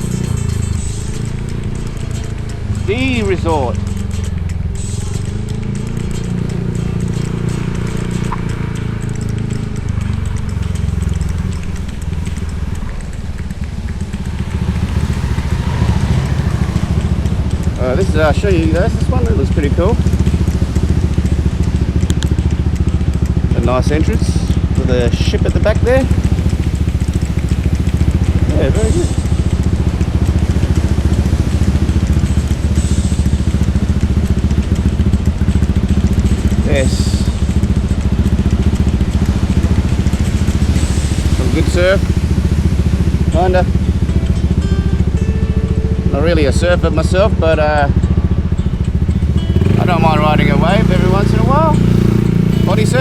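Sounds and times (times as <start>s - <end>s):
motorcycle engine rumbling: 0.0s - 53.0s.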